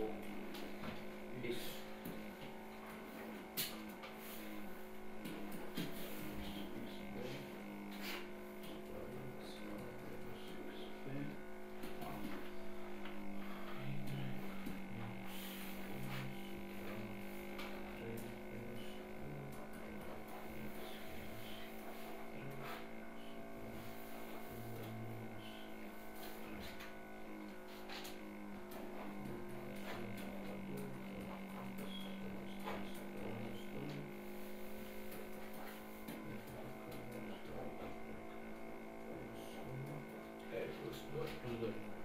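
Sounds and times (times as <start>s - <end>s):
pulsing low wavering tone: 0.0s - 42.0s
steady low hum: 0.0s - 42.0s.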